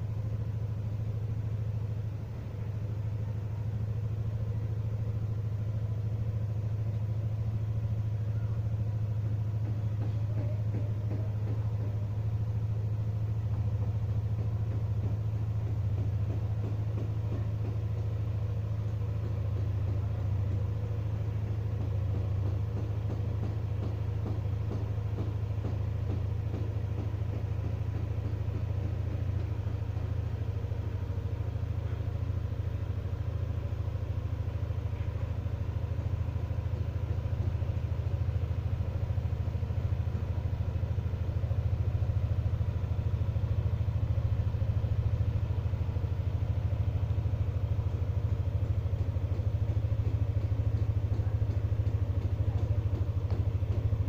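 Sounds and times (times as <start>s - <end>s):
faint steady tones: 0.0s - 45.3s
motor droning: 0.0s - 54.0s.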